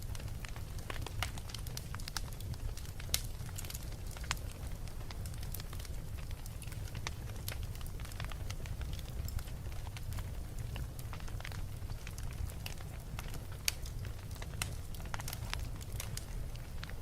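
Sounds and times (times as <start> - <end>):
low rumble of fire: 0.0 - 17.0
wood fire crackling and popping: 0.0 - 17.0.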